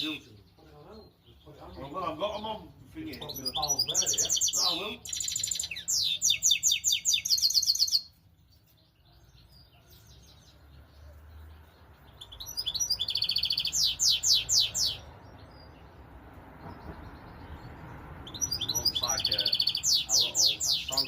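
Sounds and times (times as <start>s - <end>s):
finch singing: 0.0s - 21.0s.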